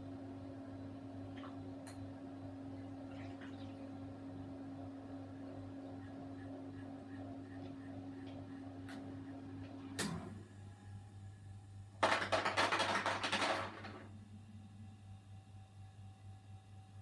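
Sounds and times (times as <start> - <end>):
refrigerator hum: 0.0 - 17.0.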